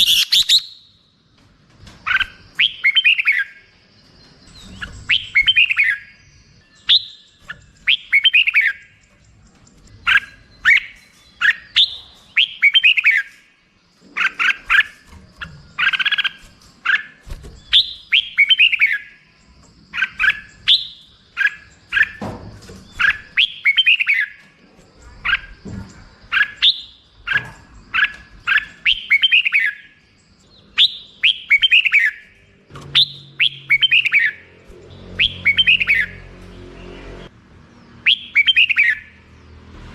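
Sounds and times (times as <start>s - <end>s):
bulbul singing: 0.0s - 39.7s.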